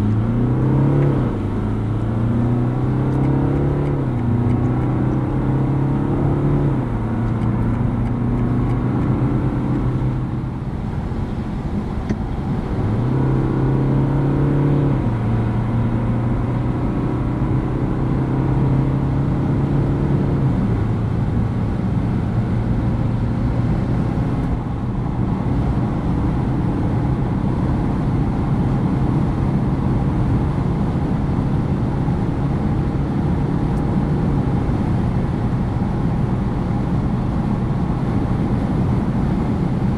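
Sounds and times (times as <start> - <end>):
car engine droning: 0.0 - 39.9
road and wind noise: 0.0 - 39.9.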